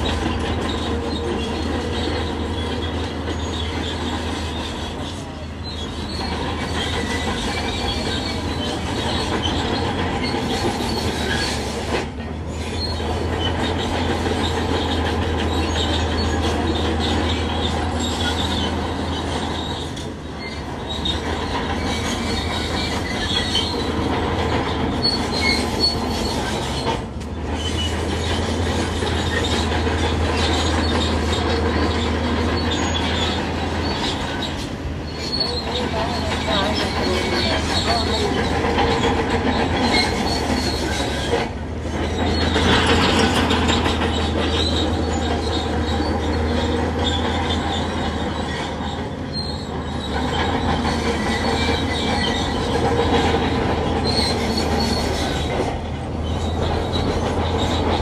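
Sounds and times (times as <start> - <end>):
diesel engine running: 0.0 - 58.0
steel tracks squealing and clanking: 0.0 - 58.0.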